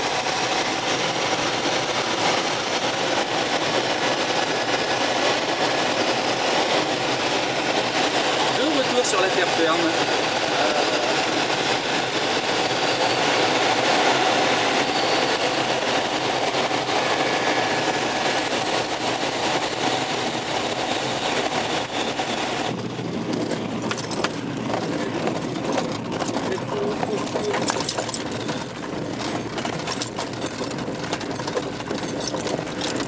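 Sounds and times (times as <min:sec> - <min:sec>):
wind rushing in cockpit: 0:00.0 - 0:33.0.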